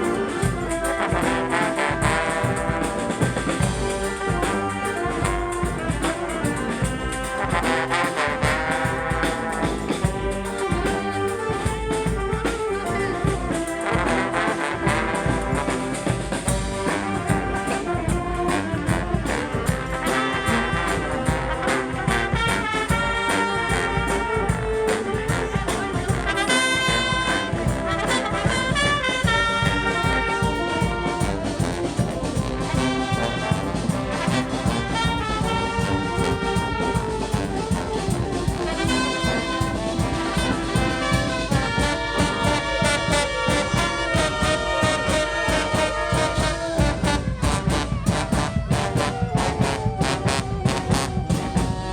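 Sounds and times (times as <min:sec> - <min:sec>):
brass band playing: 0:00.0 - 0:51.9
steady drum beat: 0:00.0 - 0:51.9.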